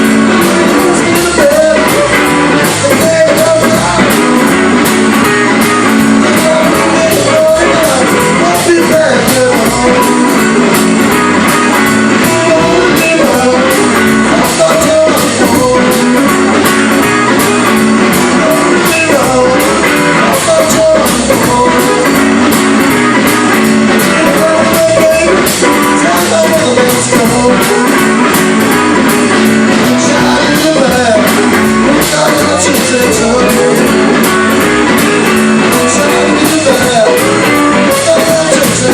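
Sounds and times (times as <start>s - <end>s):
blues-rock band playing: 0.0s - 38.9s
electric guitar bending notes: 0.0s - 38.9s.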